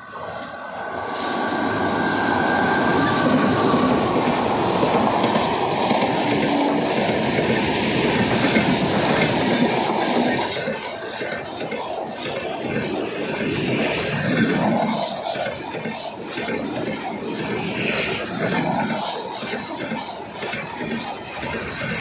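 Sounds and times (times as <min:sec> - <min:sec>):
train wheels clattering on rails: 0:00.0 - 0:22.0.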